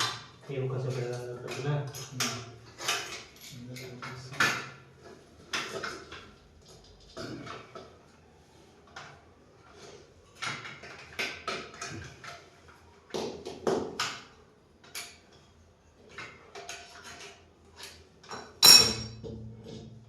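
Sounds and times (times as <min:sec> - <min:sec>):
knocks and clatter of tools: 0:00.0 - 0:08.2, 0:08.8 - 0:20.0.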